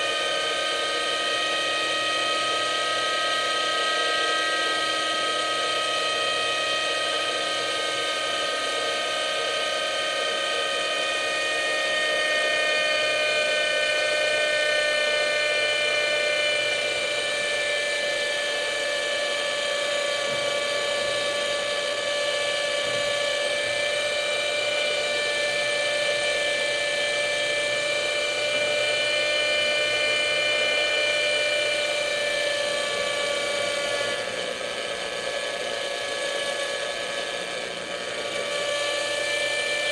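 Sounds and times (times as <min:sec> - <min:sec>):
model helicopter engine whine: 0:00.0 - 0:39.9.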